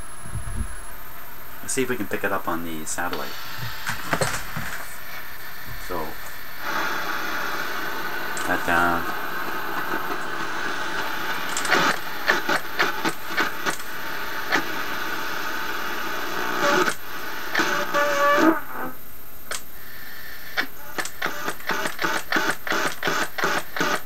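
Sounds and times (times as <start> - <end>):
radio static and hiss: 0.0 - 24.0
radio tuning clicks and crackles: 0.1 - 24.0.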